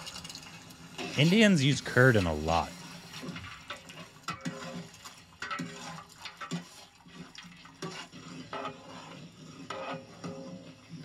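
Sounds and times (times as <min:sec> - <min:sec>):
liquid sloshing in cooking pot: 0:00.0 - 0:11.0.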